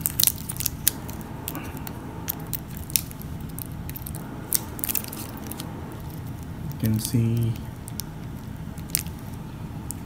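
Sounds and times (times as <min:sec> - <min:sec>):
plastic film crinkling clicks: 0:00.0 - 0:10.0.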